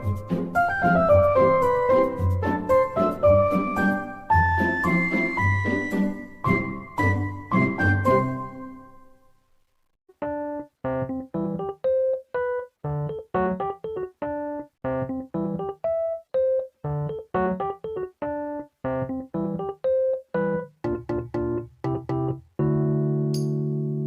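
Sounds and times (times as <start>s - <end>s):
bouncy piano music: 0.0s - 9.4s, 10.1s - 24.0s.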